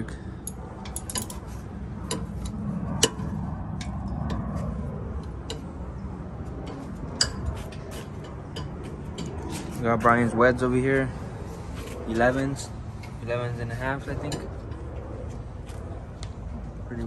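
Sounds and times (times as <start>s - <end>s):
low steady background hum: 0.0s - 17.0s.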